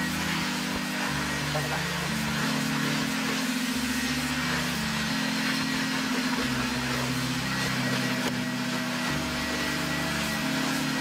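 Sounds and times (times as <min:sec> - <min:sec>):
carpet extractor suction hiss: 0:00.0 - 0:11.0
low sustained background music: 0:00.0 - 0:11.0.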